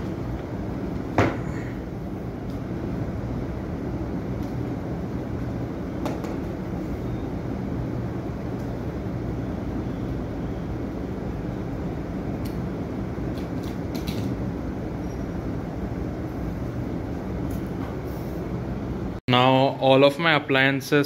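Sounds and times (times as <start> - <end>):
fan hum and whoosh: 0.0 - 21.0.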